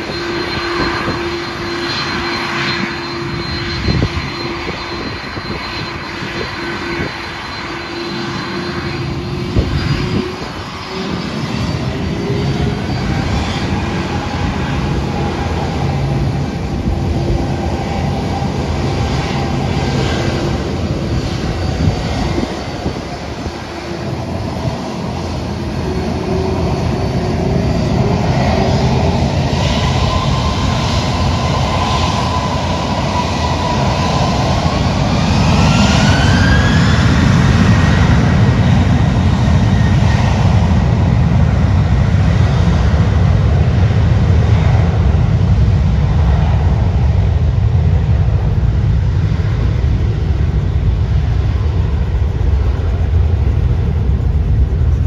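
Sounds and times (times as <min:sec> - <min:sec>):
jet engines spooling up: 0:00.0 - 0:55.0
rising engine whine: 0:00.0 - 0:55.0.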